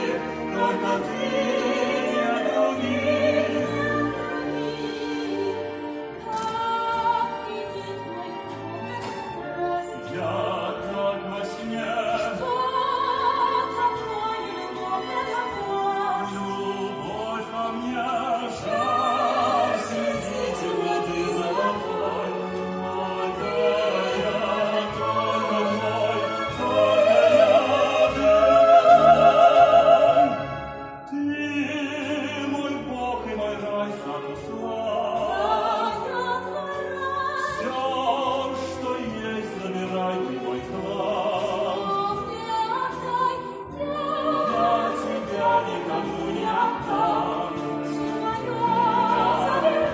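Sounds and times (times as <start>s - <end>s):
operatic singing with vibrato: 0.0s - 49.9s
orchestral accompaniment: 0.0s - 49.9s.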